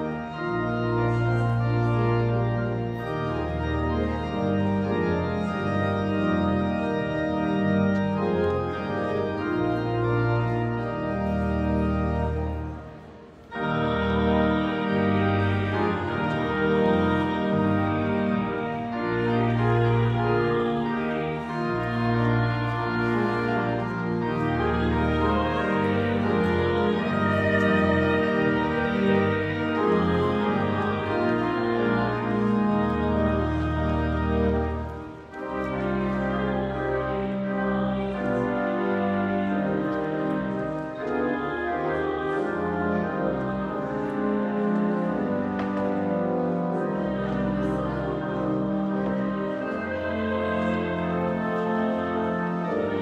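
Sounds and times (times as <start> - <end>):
organ chord with low bass: 0.0 - 53.0.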